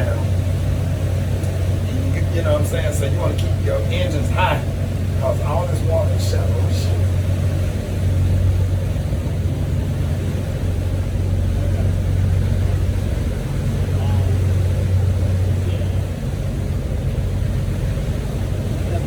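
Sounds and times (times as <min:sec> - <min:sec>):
outboard engine droning: 0:00.0 - 0:19.0
water rushing past: 0:00.0 - 0:19.0.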